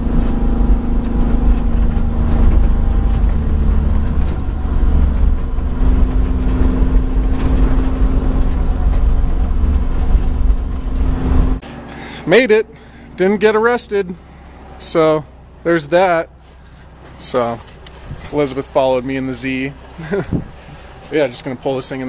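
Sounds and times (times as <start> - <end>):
road and wind rumble: 0.0 - 22.0
truck engine drone: 0.0 - 22.0.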